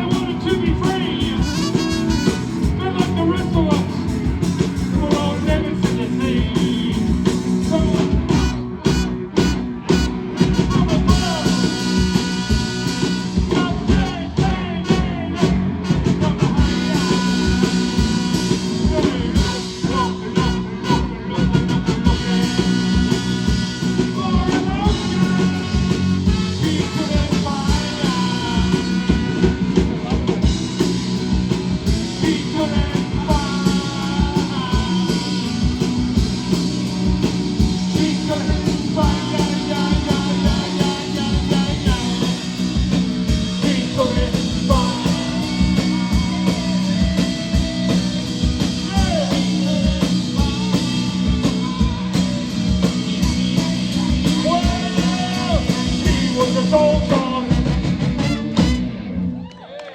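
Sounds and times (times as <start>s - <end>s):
rock band playing: 0.0s - 59.6s
person singing: 4.9s - 8.5s, 10.6s - 30.5s, 31.8s - 36.2s, 37.6s - 58.3s.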